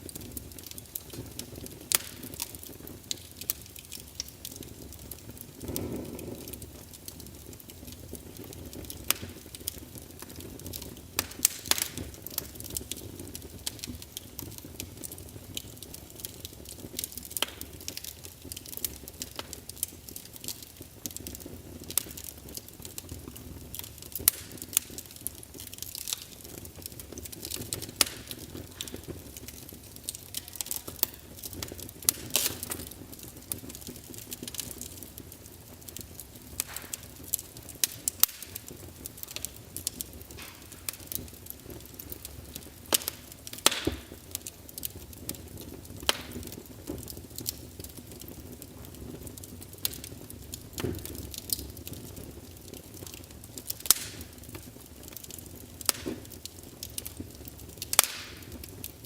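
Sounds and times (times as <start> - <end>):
low rumble of flames: 0.0 - 59.0
wood fire crackling: 0.0 - 59.0.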